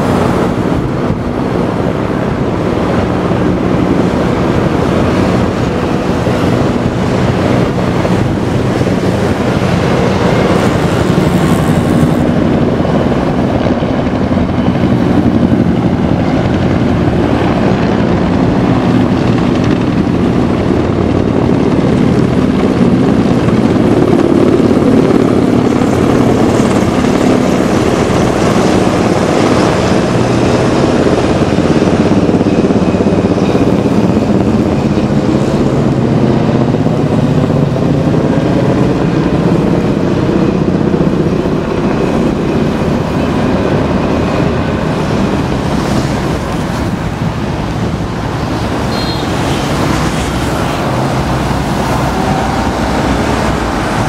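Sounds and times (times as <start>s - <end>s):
helicopters flying overhead: 0.0s - 54.0s.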